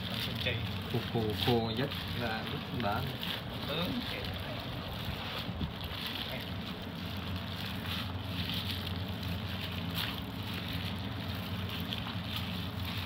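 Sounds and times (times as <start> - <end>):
faint rustles: 0.0 - 13.0
steady low hum: 0.0 - 13.0.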